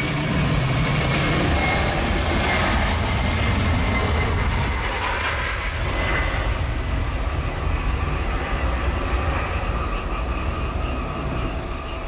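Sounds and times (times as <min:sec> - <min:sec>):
jet airliner engines roaring: 0:00.0 - 0:12.0.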